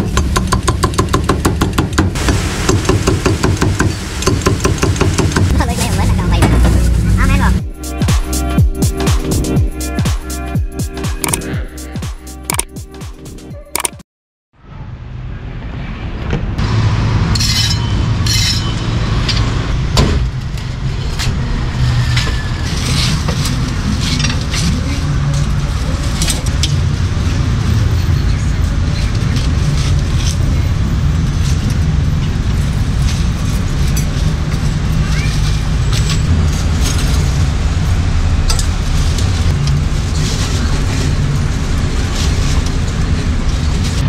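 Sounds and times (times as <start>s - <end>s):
street traffic: 0.0s - 44.0s.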